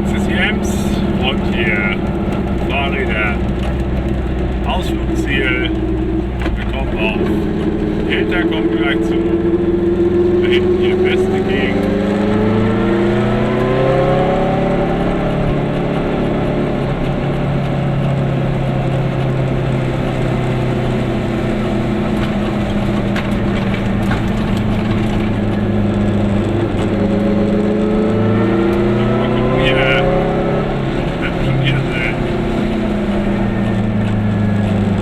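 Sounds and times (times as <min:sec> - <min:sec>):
road noise: 0:00.0 - 0:35.0
small two-stroke car engine: 0:00.0 - 0:35.0.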